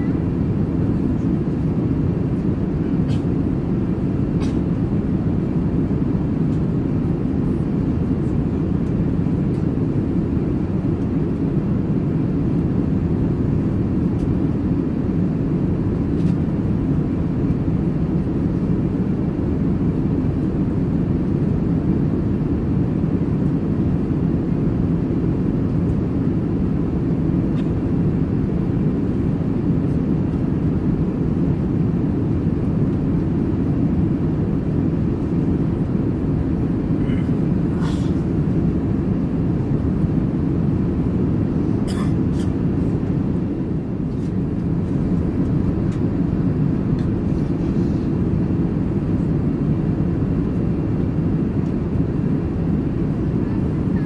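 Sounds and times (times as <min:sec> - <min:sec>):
airplane cabin noise: 0:00.0 - 0:54.0.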